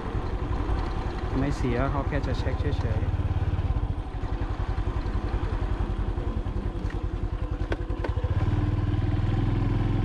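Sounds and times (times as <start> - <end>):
vehicle engine chugging: 0.0 - 9.2.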